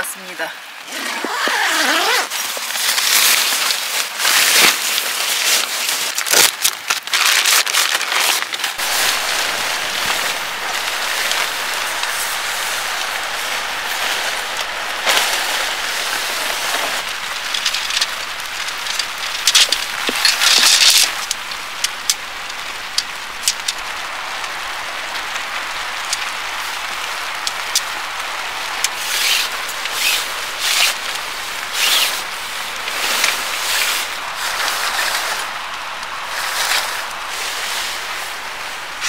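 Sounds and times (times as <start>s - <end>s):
heavy rain: 0.0s - 39.0s
rustling bursts: 0.9s - 39.0s.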